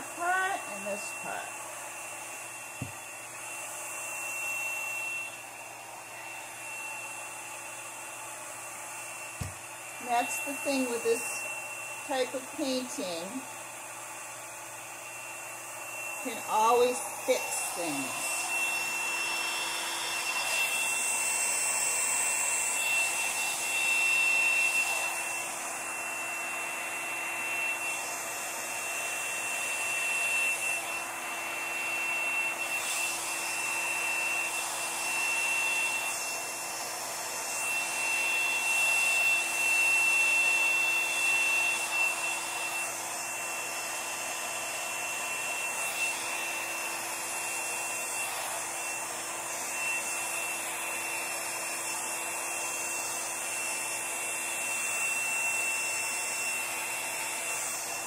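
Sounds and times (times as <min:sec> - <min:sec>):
hair dryer whining: 0:00.0 - 0:58.0.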